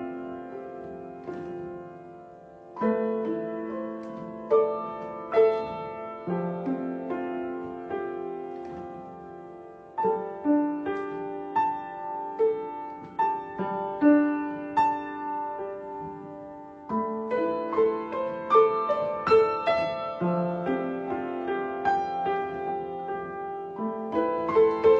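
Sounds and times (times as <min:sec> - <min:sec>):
slow solo piano: 0:00.0 - 0:24.9.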